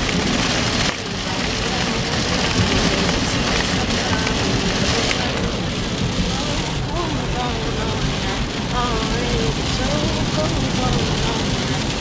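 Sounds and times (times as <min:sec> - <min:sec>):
heavy rain on a car: 0:00.0 - 0:12.0.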